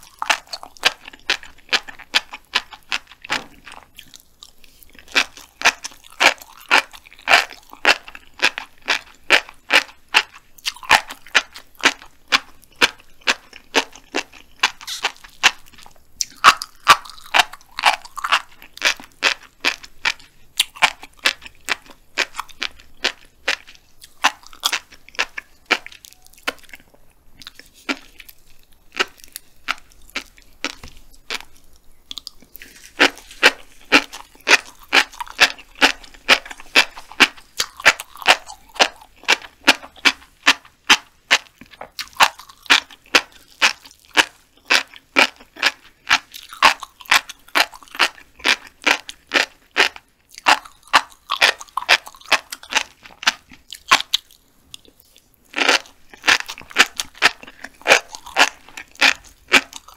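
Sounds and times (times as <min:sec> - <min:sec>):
chewing crunchy fish roe: 0:00.0 - 0:59.9.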